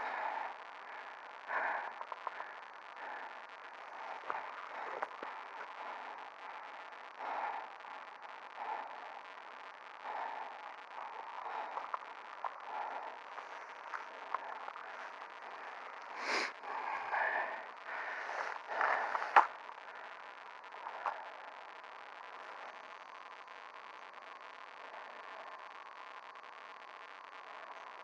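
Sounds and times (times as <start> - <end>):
steady hiss: 0.0 - 28.0
faint clicks: 0.2 - 16.7, 17.6 - 28.0.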